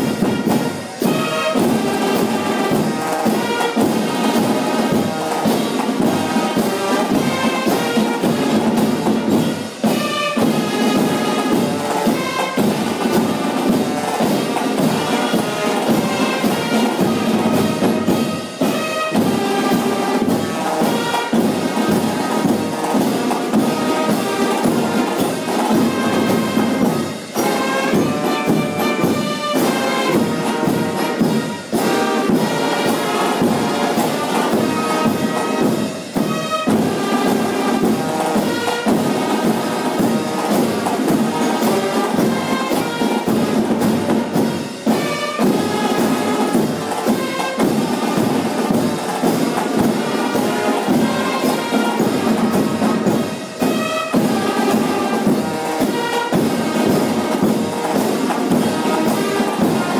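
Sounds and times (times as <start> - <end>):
brass and percussion music: 0.0 - 59.9.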